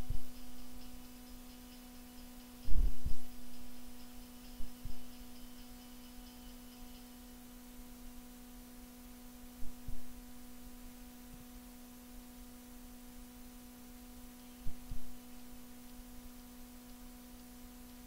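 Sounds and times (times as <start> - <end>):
electrical hum: 0.0 - 18.0
light hiss: 0.0 - 18.0.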